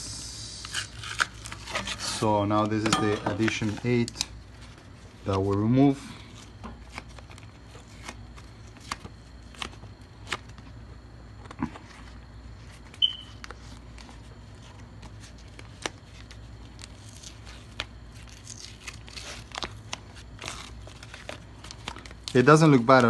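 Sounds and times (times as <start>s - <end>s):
steady low hum: 0.0s - 23.0s
tape crackling as peeled off: 0.6s - 5.8s, 6.4s - 10.8s, 11.4s - 23.0s.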